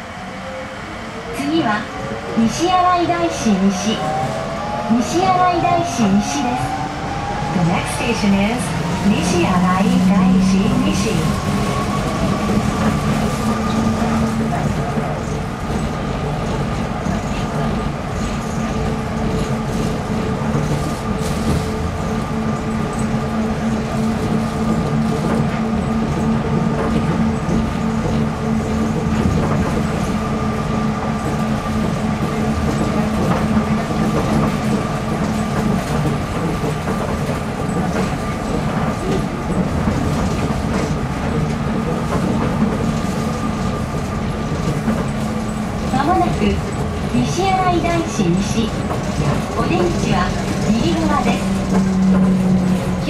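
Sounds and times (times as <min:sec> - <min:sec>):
train rumble inside car: 0:01.4 - 0:53.0.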